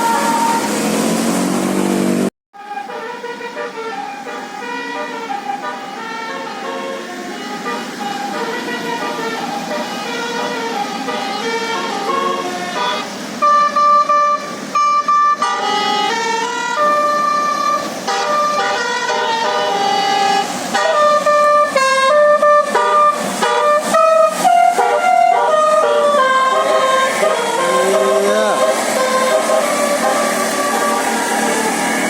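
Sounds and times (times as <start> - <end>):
multi-tone bus horn tune: 0.0 - 32.0.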